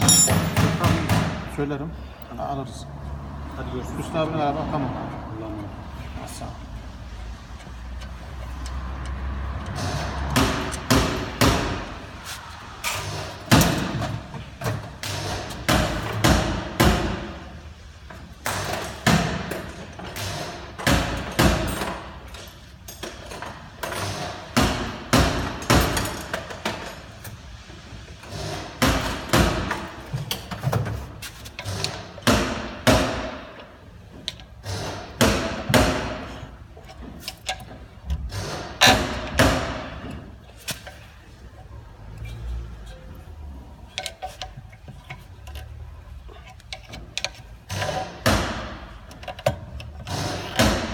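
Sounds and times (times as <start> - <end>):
thumps and metal clanks of tools: 0.0 - 1.6, 7.5 - 17.4, 18.0 - 27.4, 28.2 - 50.9.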